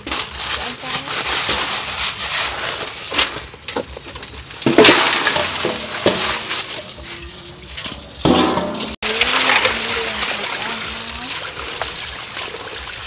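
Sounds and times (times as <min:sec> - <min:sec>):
ice and crabs clattering in water: 0:00.0 - 0:13.0
steel basin scraping: 0:00.0 - 0:13.0.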